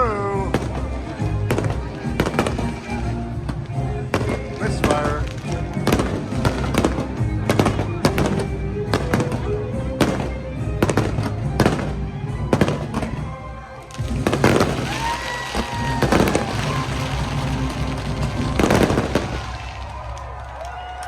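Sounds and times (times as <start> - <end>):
fireworks bursting and crackling: 0.0 - 21.0
musical soundtrack: 0.0 - 21.0.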